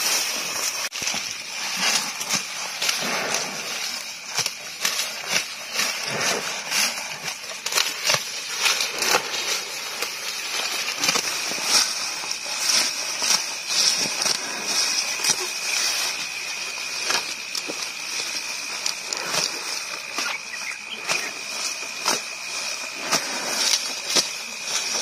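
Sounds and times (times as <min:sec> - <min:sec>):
buffalo chewing and tearing grass: 0:00.0 - 0:25.0
high-pitched hiss: 0:00.0 - 0:25.0.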